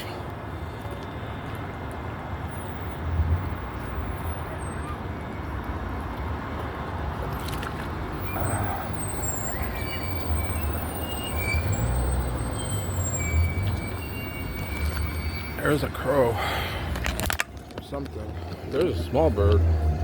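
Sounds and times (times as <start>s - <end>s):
bus engine rumble: 0.0s - 20.0s
road traffic: 0.0s - 20.0s.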